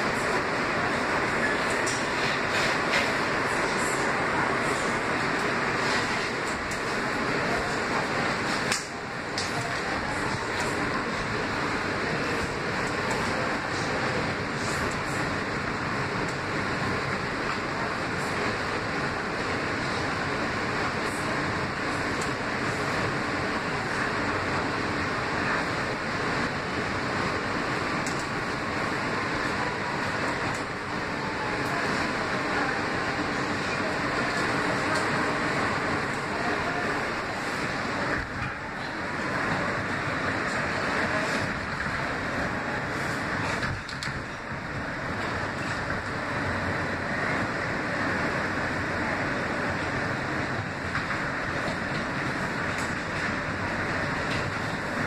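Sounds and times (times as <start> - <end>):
subway wheels rumbling on rails: 0.0 - 55.0.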